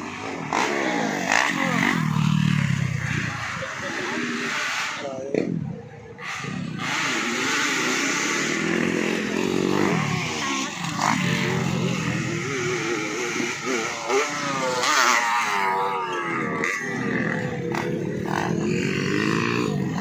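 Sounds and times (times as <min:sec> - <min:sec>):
motocross engines revving: 0:00.0 - 0:20.0.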